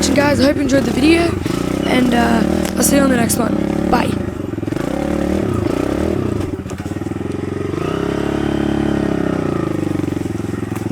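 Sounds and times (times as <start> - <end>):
dirt bike engine running: 0.0 - 10.9.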